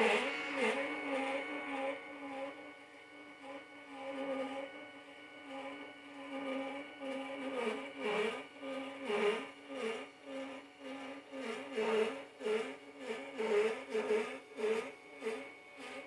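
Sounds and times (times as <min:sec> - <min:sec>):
motor whine: 0:00.0 - 0:16.0.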